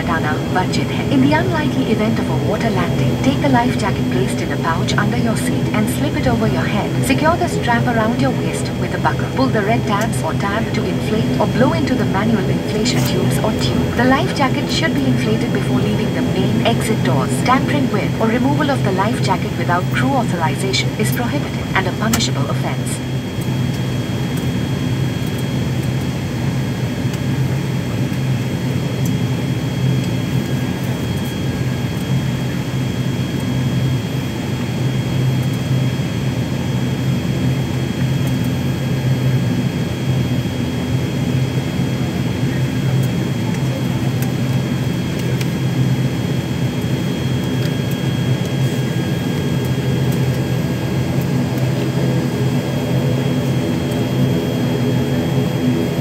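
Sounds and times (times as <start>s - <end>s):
high propeller whine: 0.0s - 56.0s
turboprop engine drone: 0.0s - 56.0s.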